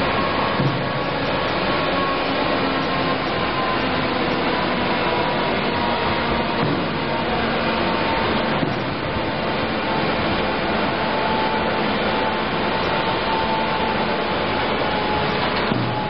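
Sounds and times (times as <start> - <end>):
faint machine whine: 0.0 - 16.0
machine belts and rollers running: 0.0 - 16.0.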